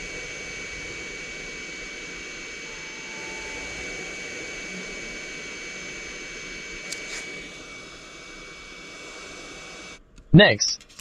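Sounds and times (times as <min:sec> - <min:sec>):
hot air gun blowing: 0:00.0 - 0:10.0.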